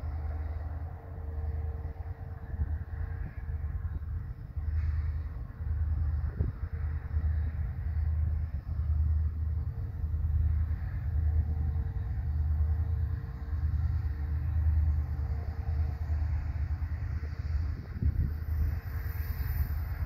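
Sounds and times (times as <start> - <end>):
faint hum: 0.0 - 20.0
locomotive rumble: 0.0 - 20.0.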